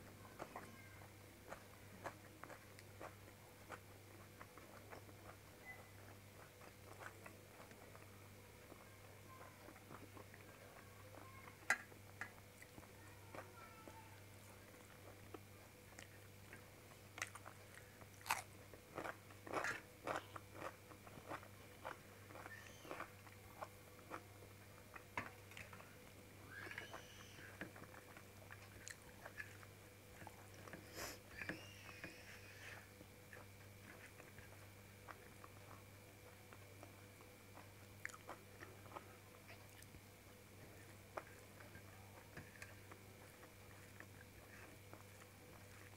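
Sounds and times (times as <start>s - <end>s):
faint steady hum: 0.0s - 45.9s
soft wet chewing: 0.0s - 45.9s.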